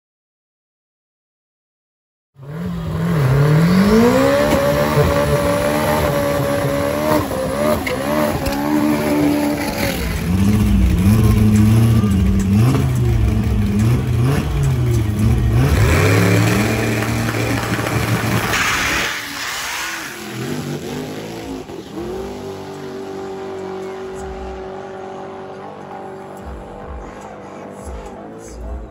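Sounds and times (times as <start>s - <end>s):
race car engines revving: 2.4s - 28.9s.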